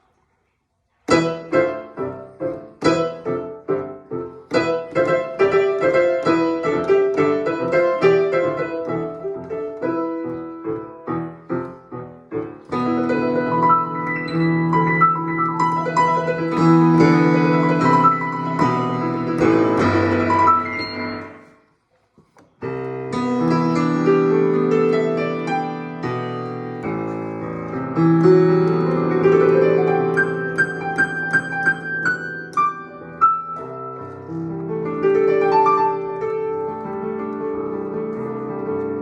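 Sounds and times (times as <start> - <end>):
piano playing: 1.1 - 21.6, 22.6 - 39.0.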